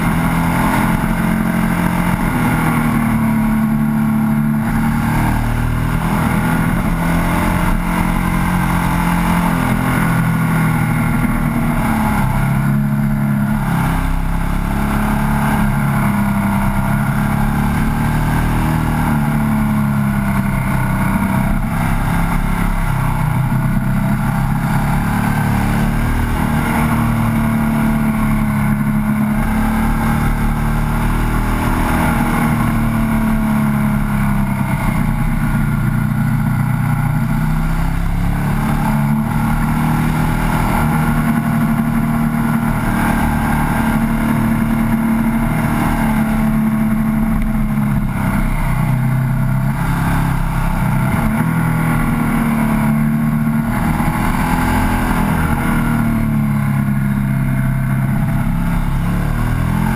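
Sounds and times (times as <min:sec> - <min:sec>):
motorcycle engine pulling hard: 0:00.0 - 0:59.9.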